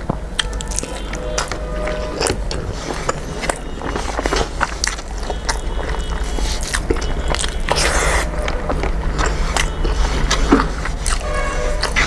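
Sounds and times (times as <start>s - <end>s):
chewing with full mouth: 0.0s - 12.0s
rustling: 0.9s - 12.0s.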